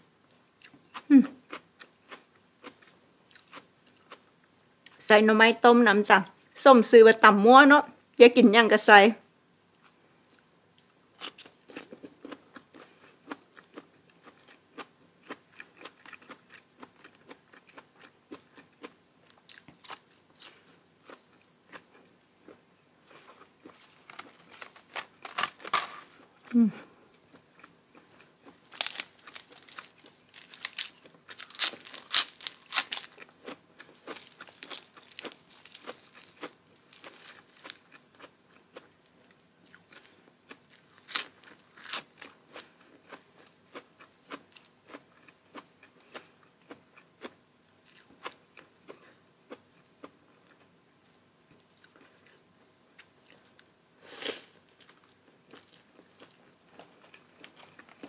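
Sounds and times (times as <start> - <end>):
person crunching crisp food: 0.6 - 4.2, 11.2 - 50.6, 53.0 - 58.0.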